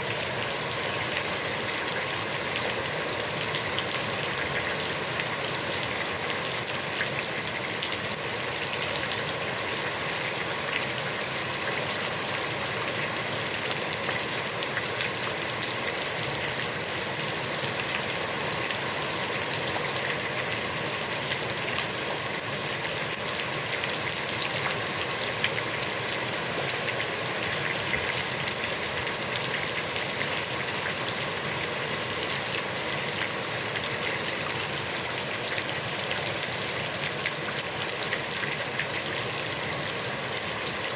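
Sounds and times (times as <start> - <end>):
heavy rain on pond: 0.0 - 40.9.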